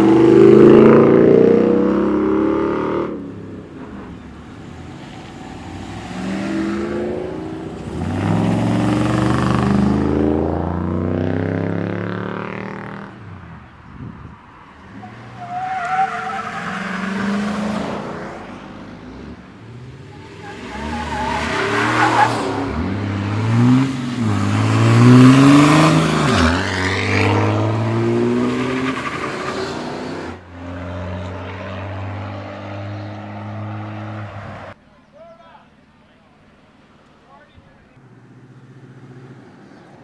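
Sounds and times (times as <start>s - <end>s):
pickup truck engines revving past: 0.0s - 13.4s, 14.7s - 34.8s, 38.0s - 40.0s.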